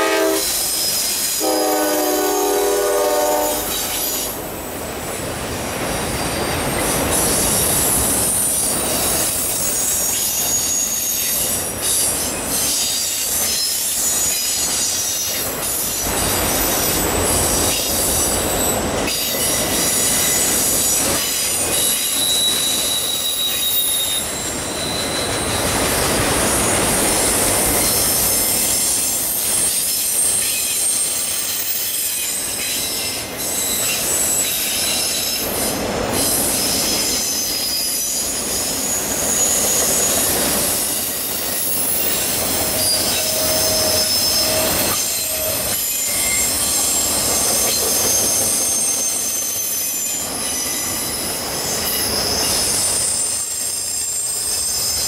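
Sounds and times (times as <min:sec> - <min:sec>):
freight train rolling on rails: 0:00.0 - 0:55.0
wheel flange squeals: 0:06.1 - 0:35.6, 0:36.2 - 0:55.0.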